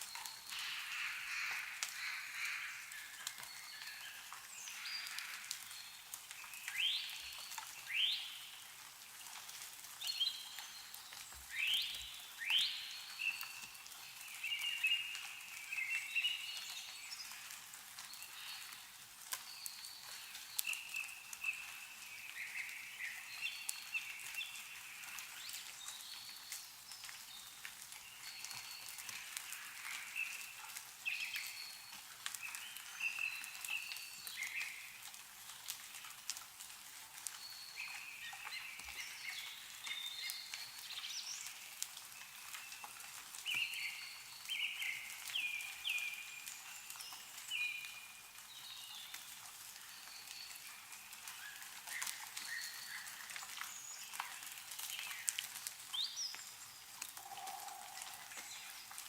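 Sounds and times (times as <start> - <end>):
meltwater dripping: 0.0 - 59.0
songbirds chirping: 0.0 - 59.0.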